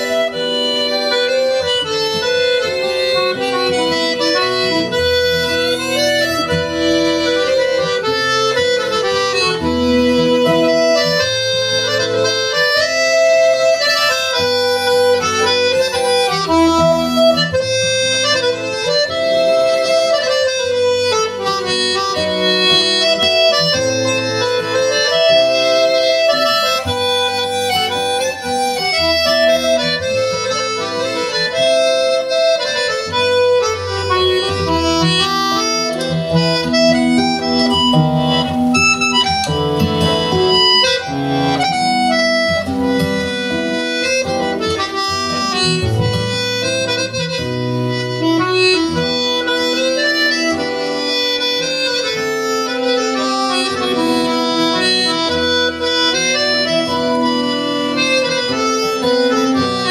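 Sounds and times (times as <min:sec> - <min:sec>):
accordion: 0:00.0 - 0:59.9
acoustic guitar: 0:00.0 - 0:59.9
concertina: 0:00.0 - 0:59.9
fiddle: 0:00.0 - 0:59.9.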